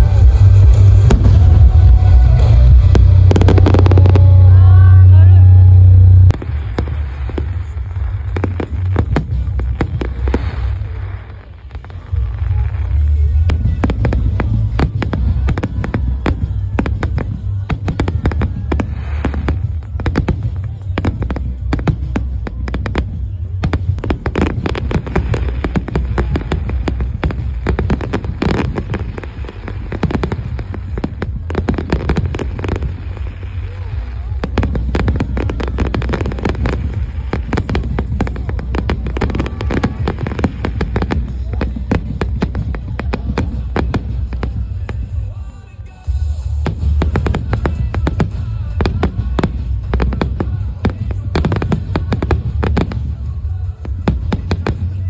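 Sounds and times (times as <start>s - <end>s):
deep steady rumble: 0.0s - 55.0s
fireworks crackling and popping: 0.0s - 55.0s.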